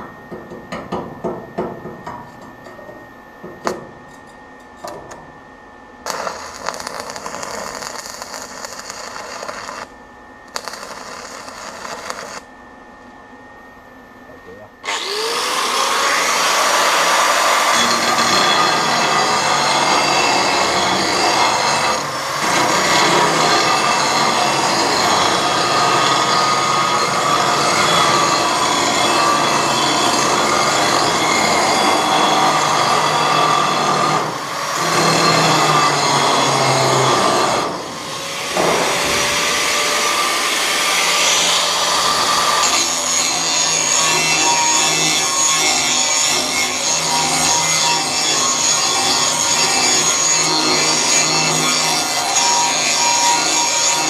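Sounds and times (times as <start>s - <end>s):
grinder grinding steel: 6.1s - 9.9s, 10.5s - 12.4s, 14.8s - 54.0s.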